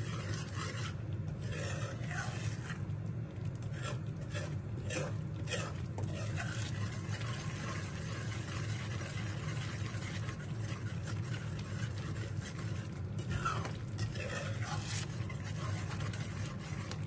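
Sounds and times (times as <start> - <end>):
mixture bubbling and simmering: 0.0 - 17.0
spoon stirring in pot: 0.0 - 17.0.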